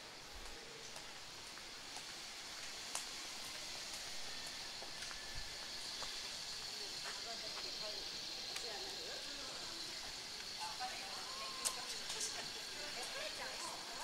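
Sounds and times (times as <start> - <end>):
faint footsteps on pavement: 0.0 - 14.0
steady street hiss: 0.0 - 14.0.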